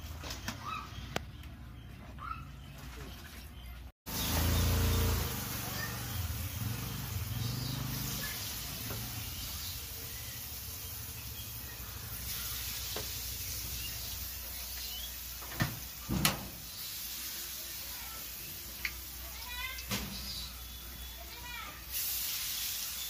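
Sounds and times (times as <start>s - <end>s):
oil sizzling in pan: 4.1s - 23.0s.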